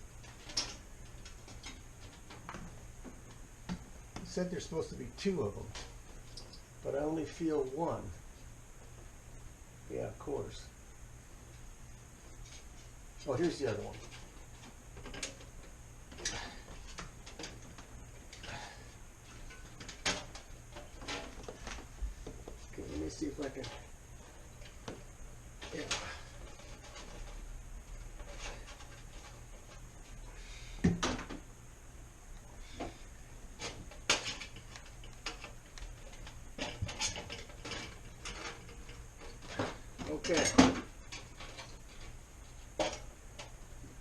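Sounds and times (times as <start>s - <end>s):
faint low hum: 0.0s - 44.0s.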